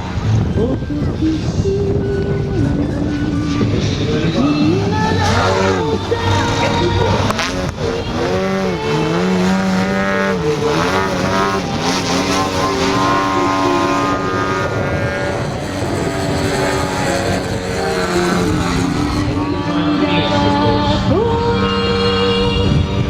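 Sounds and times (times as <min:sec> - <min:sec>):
model plane engine in flight: 0:00.0 - 0:23.0.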